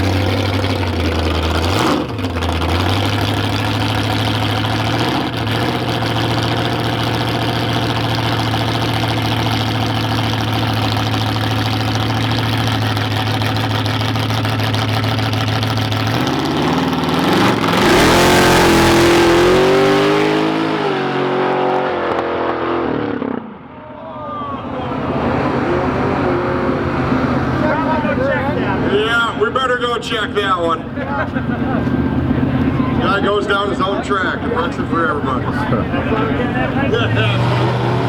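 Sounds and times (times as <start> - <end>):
drag racing car engine revving: 0.0 - 23.7, 24.6 - 38.0.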